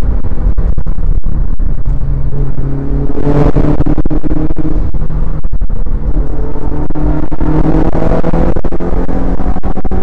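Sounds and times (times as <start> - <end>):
car engine pulling hard: 0.0 - 10.0.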